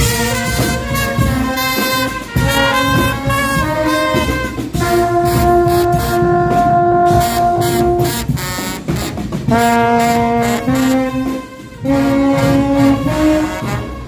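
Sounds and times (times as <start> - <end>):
brass band playing: 0.0 - 14.0
drums: 0.0 - 14.0.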